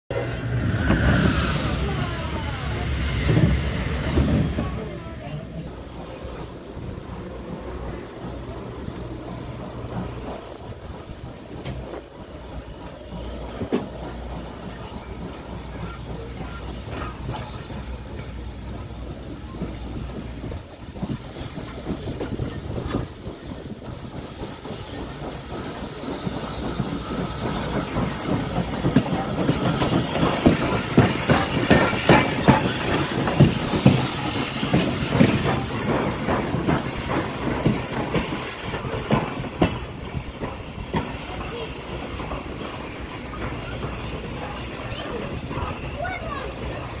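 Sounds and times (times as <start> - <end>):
hissing steam: 0.1 - 47.0
steam locomotive passing: 0.1 - 47.0
wheels and running gear clicking: 0.2 - 47.0.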